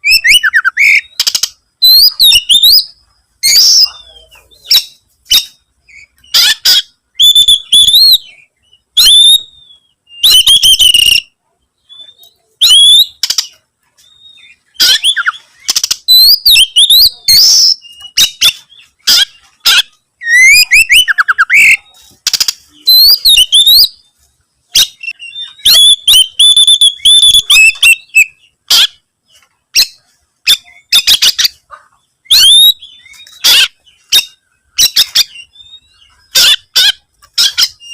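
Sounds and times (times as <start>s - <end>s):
bird singing: 0.0s - 37.9s.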